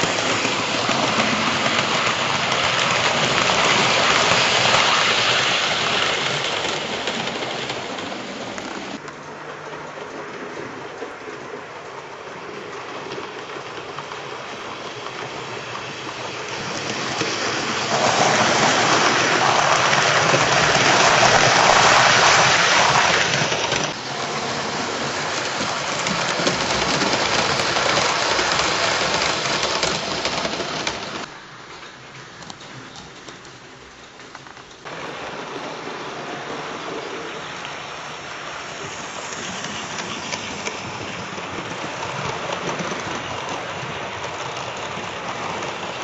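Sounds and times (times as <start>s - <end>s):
model train wheels rattling on rail: 0.0s - 31.3s, 32.1s - 46.0s.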